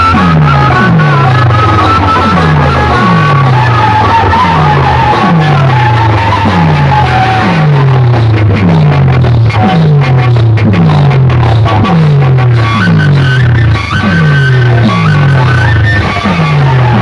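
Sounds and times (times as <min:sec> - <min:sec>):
deep bass hits: 0:00.0 - 0:17.0
loud music from loudspeakers: 0:00.0 - 0:17.0.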